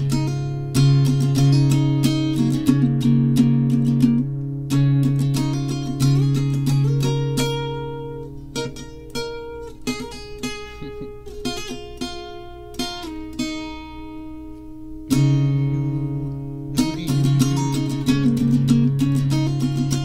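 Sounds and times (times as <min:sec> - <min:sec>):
plucked string instrument notes: 0:00.0 - 0:20.0
strummed chord: 0:00.0 - 0:20.0.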